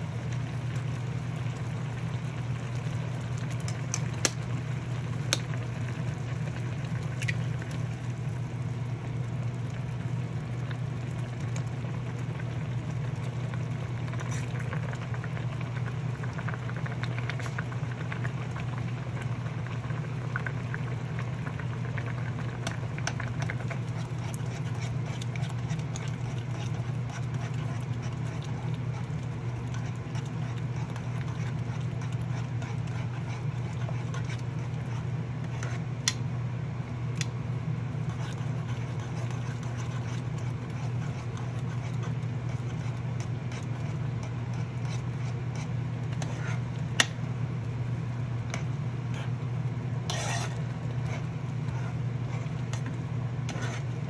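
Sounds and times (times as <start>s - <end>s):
pot of water boiling: 0.0s - 54.0s.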